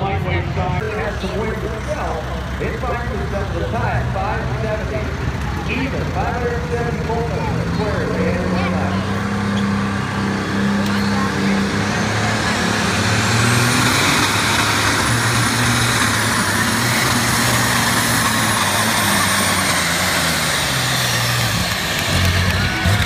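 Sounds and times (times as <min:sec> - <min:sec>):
high engine whine: 0:00.0 - 0:23.0
tractor engine running hard: 0:00.0 - 0:23.0.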